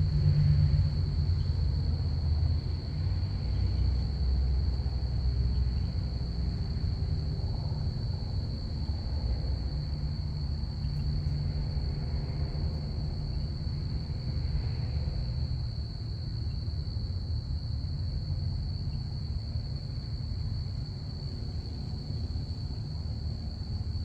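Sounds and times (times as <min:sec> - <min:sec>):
aircraft rumble: 0:00.0 - 0:24.0
crickets chirping: 0:00.1 - 0:24.0.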